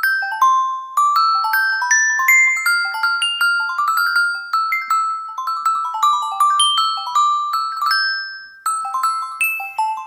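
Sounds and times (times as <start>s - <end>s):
bell-like mallet ringtone melody: 0.0s - 10.0s.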